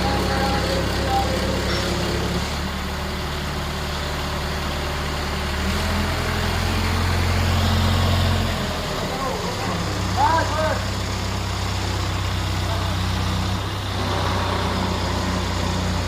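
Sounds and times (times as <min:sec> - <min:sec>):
large engine running: 0:00.0 - 0:16.0.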